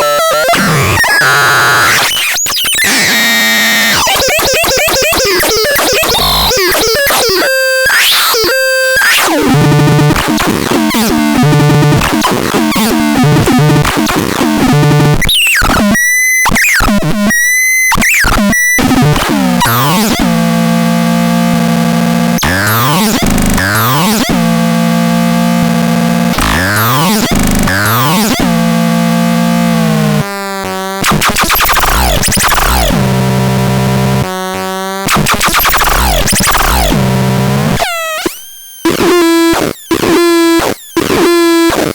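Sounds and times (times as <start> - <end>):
buzzy synthesizer notes: 0.0 - 15.2, 18.8 - 30.3, 31.0 - 41.8.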